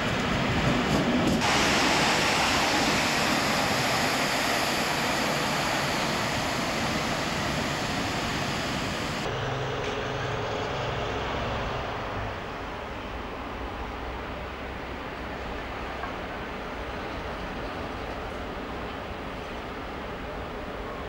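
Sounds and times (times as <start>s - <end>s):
train rolling through station: 0.0s - 21.0s.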